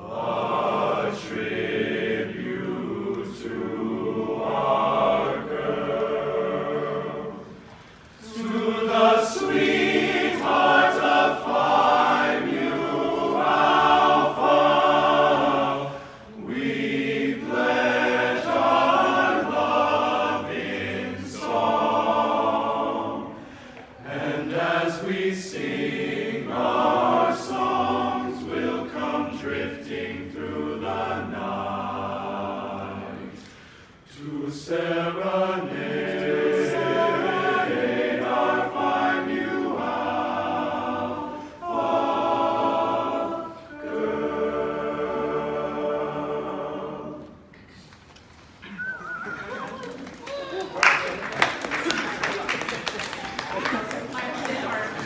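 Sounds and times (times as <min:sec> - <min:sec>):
men's chorus singing a cappella: 0:00.0 - 0:47.5.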